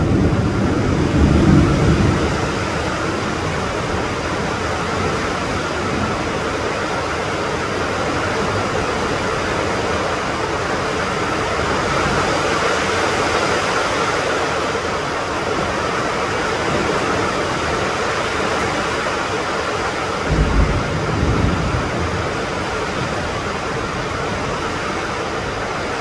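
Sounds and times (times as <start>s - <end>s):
heavy rain on roofs and trees: 0.0s - 26.0s.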